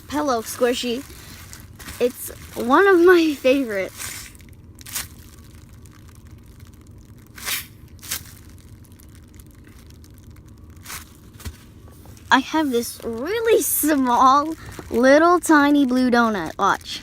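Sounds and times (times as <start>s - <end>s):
foam toy rustling and crinkling: 0.0s - 17.0s
low steady hum: 0.0s - 17.0s.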